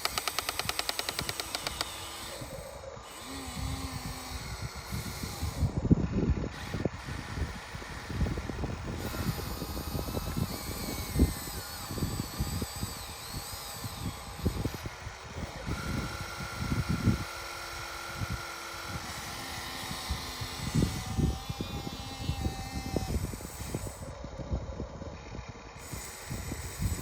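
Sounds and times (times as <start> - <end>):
small electric motors whining: 0.0 - 27.0.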